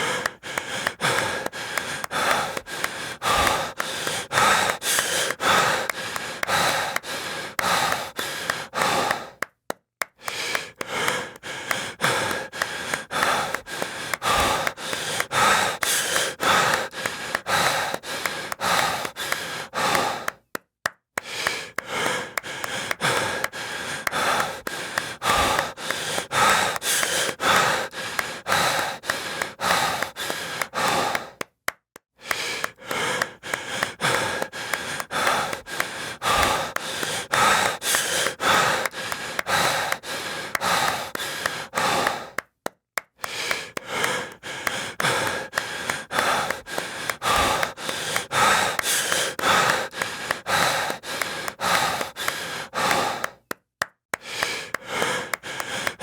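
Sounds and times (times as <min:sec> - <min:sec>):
heavy rapid breathing: 0:00.0 - 0:20.6, 0:21.2 - 0:31.6, 0:32.2 - 0:56.0
rhythmic hand clapping: 0:00.0 - 0:56.0.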